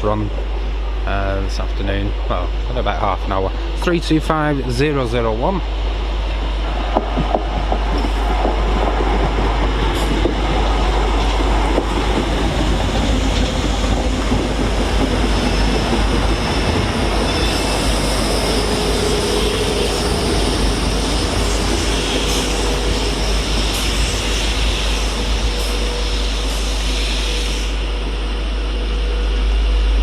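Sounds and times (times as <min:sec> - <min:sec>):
electric train running slowly: 0:00.0 - 0:30.0
steady whine: 0:00.0 - 0:30.0.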